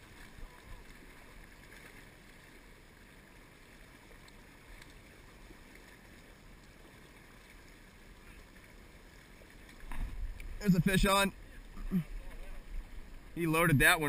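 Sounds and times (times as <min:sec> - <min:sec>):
faint river current: 0:00.0 - 0:14.0.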